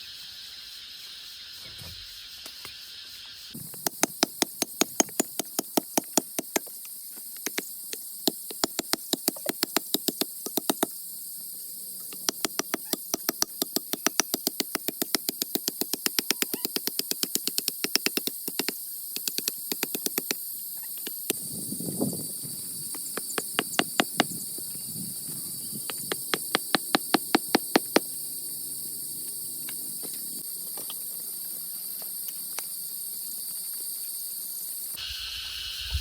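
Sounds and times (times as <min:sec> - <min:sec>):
insect hiss: 0:00.0 - 0:36.0.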